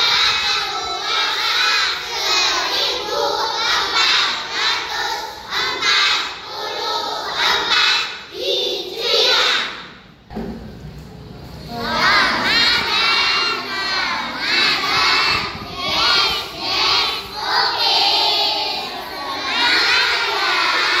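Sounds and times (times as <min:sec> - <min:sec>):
children shouting together: 0:00.0 - 0:10.0, 0:11.7 - 0:21.0.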